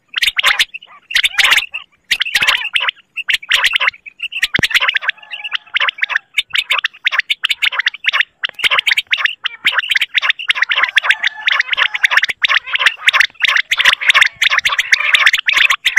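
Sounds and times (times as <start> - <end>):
recorded quail calls: 0.0 - 15.9.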